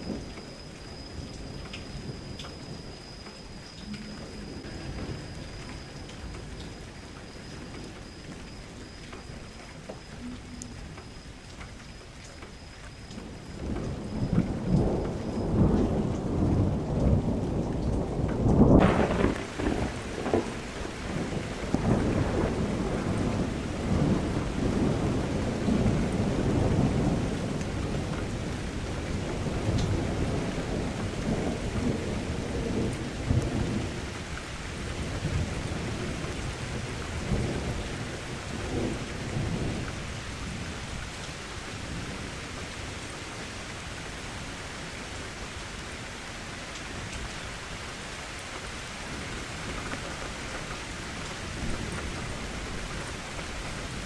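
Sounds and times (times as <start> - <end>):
rolling thunder: 0.0 - 11.4, 13.0 - 47.6
rain hiss: 0.0 - 54.0.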